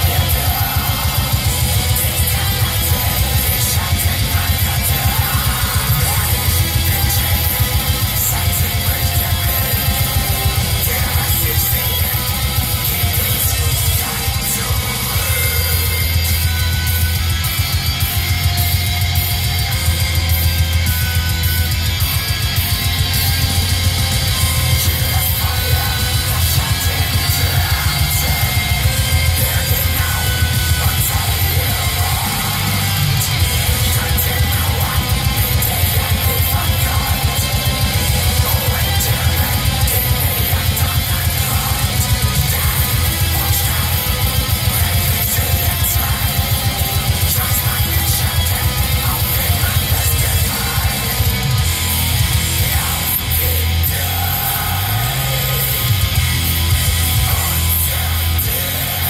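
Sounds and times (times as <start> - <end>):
distorted guitars: 0.0 - 59.0
fast drumming: 0.0 - 59.0.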